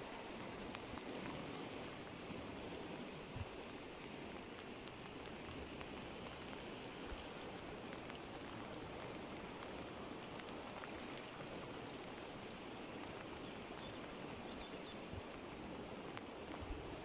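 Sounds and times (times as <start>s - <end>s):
faint drip-like ticks: 0.0s - 17.0s
flowing water rushing: 0.0s - 17.0s.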